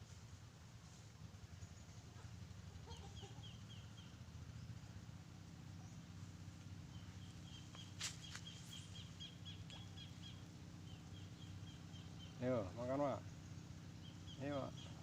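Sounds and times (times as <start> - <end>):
steady low hum: 0.0 - 15.0
small bird chirping: 1.5 - 5.0, 5.6 - 15.0.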